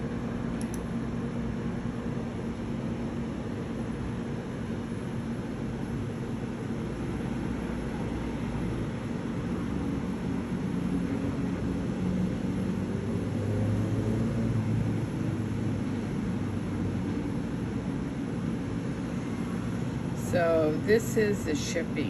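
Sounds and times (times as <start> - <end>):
low rumble with droning hum: 0.0 - 22.0.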